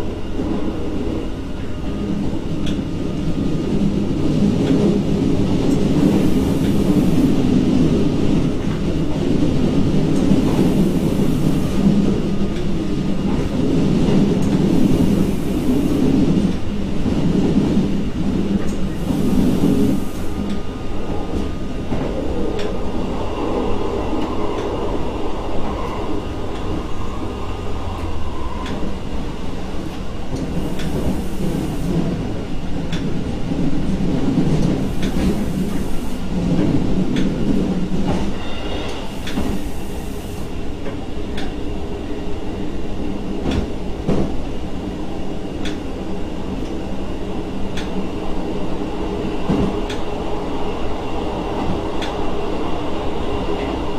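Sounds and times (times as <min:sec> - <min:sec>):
train rumbling along track: 0:00.0 - 0:53.9.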